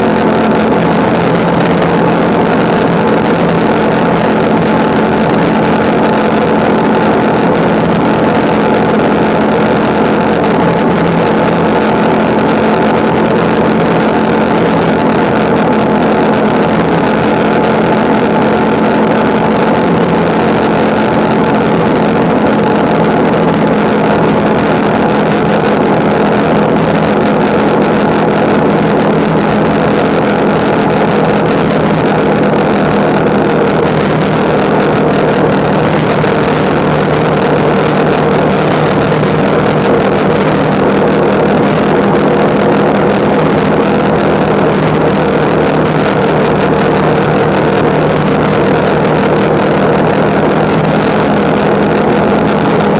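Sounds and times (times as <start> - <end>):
motorcycle engine cruising: 0.0 - 52.9
road noise: 0.0 - 52.9
wind rush: 0.0 - 52.9.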